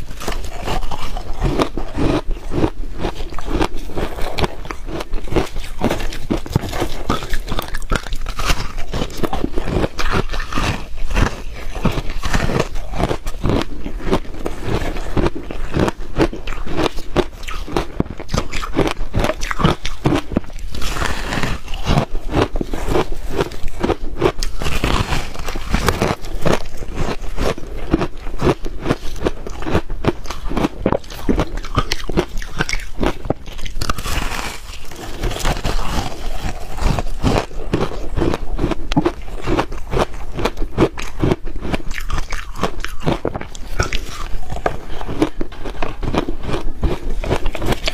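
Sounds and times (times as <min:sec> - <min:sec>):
chewing ice crunches: 0:00.0 - 0:47.9.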